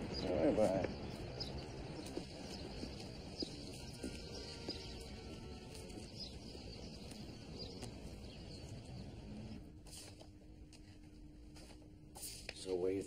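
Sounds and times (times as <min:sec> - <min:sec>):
faint steady hum: 0:00.0 - 0:13.0
low street rumble: 0:00.0 - 0:13.0.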